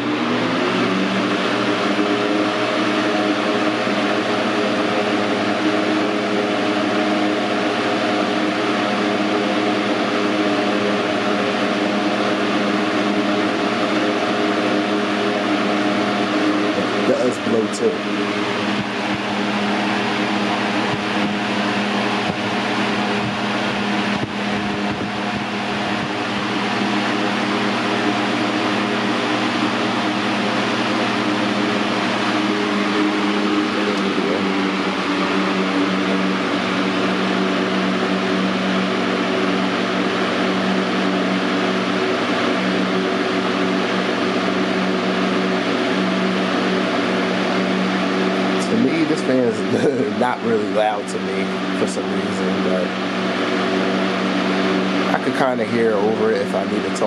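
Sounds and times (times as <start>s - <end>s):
box fan air rushing: 0.0s - 57.0s
fan motor hum: 0.0s - 57.0s.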